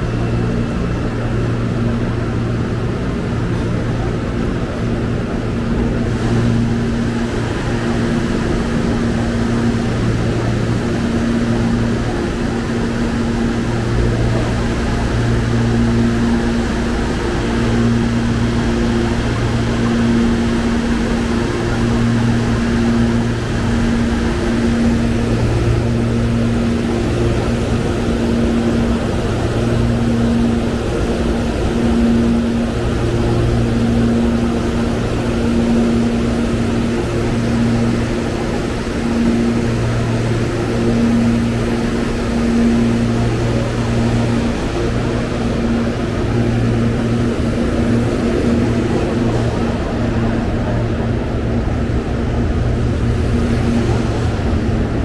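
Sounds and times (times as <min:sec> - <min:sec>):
electric train humming: 0:00.0 - 0:55.0
low pitched drone: 0:00.0 - 0:55.0.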